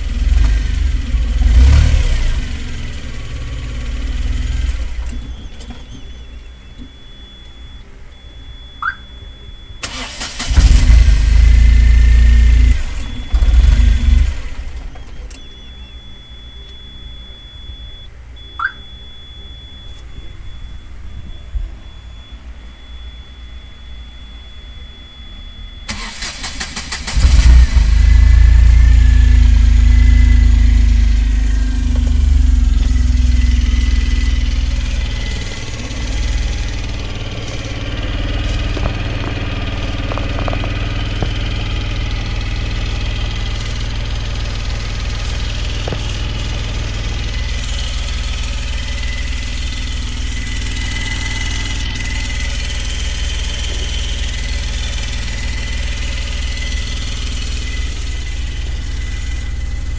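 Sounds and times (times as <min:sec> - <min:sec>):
truck engine starting and idling: 0:00.0 - 0:59.9.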